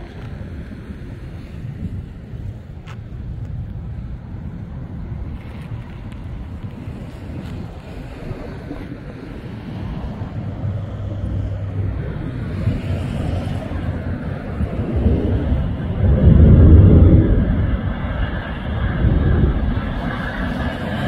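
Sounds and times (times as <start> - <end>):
fighter jet engine rumble: 0.0 - 21.0.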